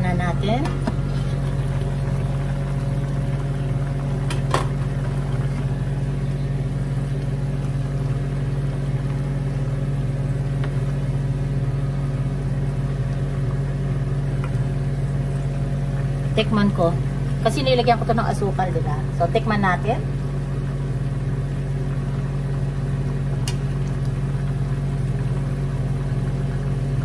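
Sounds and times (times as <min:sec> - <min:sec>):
electric motor hum: 0:00.0 - 0:27.0.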